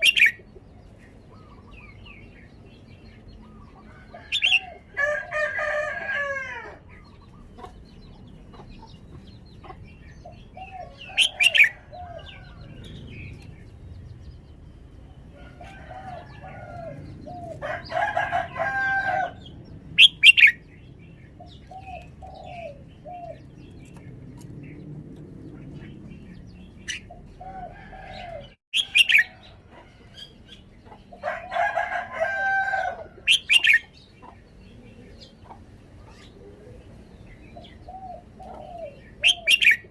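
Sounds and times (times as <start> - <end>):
bird warbling song: 0.0 - 4.9, 6.8 - 31.6, 33.0 - 39.9.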